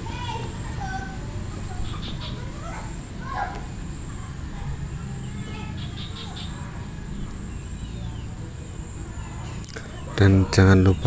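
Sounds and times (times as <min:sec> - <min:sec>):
low background hum: 0:00.0 - 0:11.0
faint bird chirps: 0:00.1 - 0:11.0.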